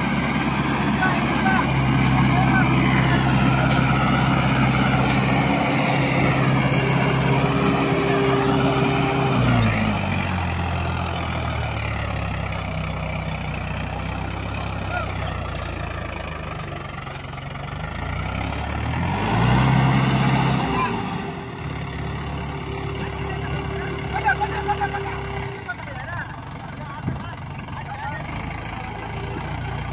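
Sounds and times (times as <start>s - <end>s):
tractor diesel engine straining: 0.0s - 29.9s.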